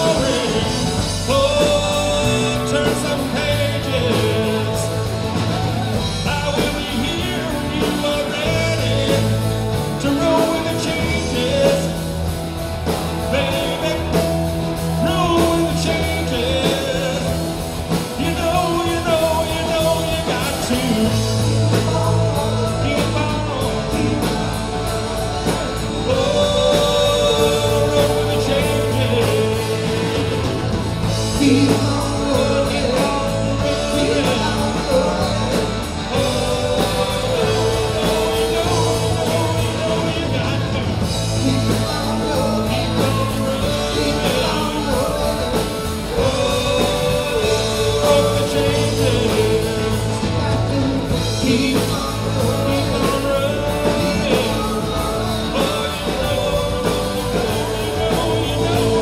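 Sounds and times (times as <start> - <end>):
person singing: 0.0 - 59.0
rock and roll band playing: 0.0 - 59.0.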